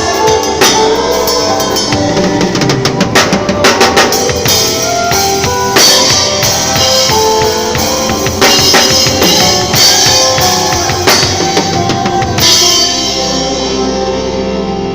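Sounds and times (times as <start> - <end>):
drum kit playing: 0.0 - 14.8
music with held notes: 0.0 - 14.9.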